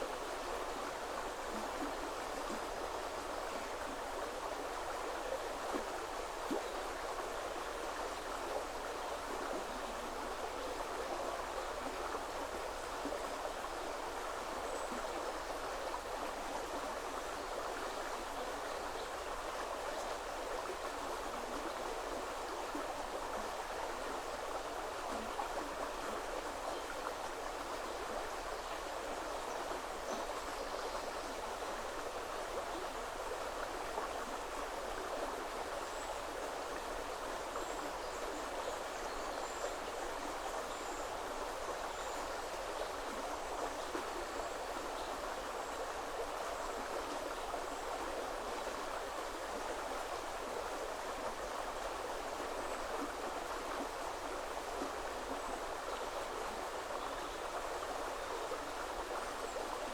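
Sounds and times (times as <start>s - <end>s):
river water babbling over stones: 0.0s - 59.9s.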